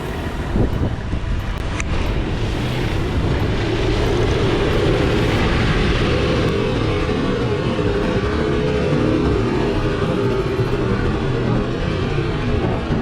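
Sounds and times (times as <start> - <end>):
diesel engine rumbling: 0.0 - 13.0
road noise: 0.0 - 13.0.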